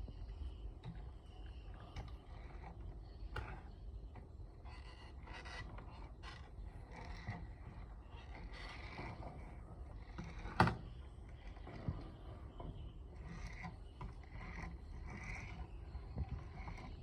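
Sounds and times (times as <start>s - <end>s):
mechanical creaking and scraping: 0.0s - 17.0s.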